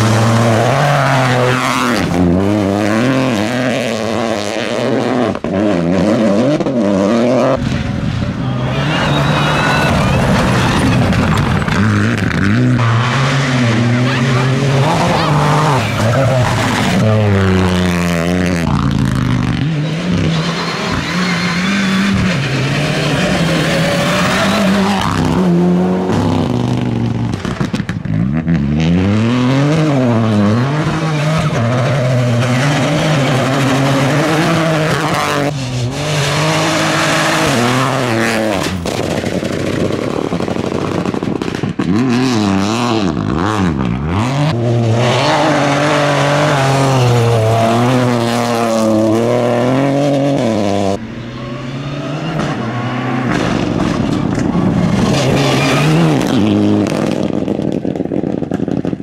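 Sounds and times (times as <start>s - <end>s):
rally car engines revving high: 0.0s - 59.0s.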